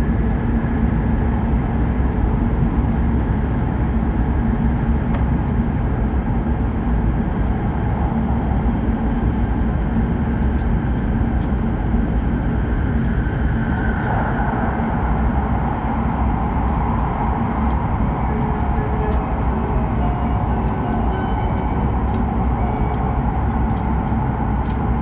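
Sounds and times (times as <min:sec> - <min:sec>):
train wheels rumbling and hissing: 0:00.0 - 0:25.0.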